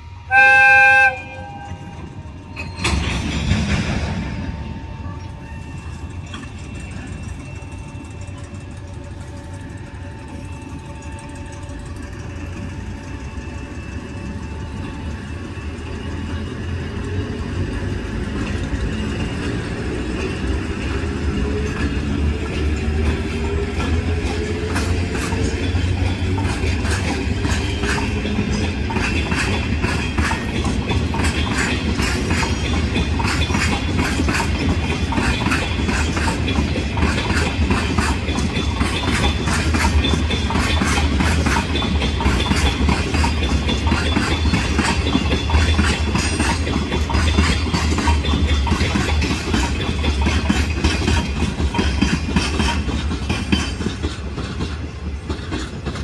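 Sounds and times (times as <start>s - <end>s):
locomotive motors whining: 0.0s - 53.3s
wheel clicks over rail joints: 5.2s - 56.0s.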